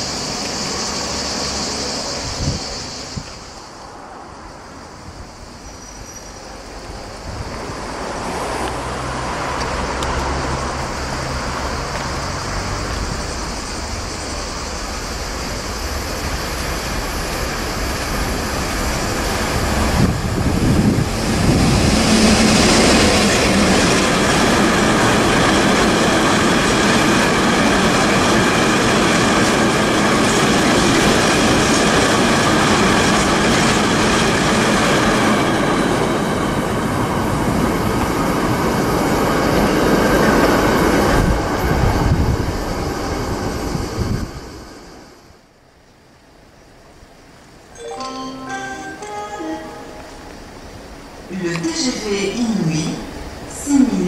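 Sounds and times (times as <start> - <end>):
diesel locomotive passing: 0.0 - 45.6, 46.2 - 54.0.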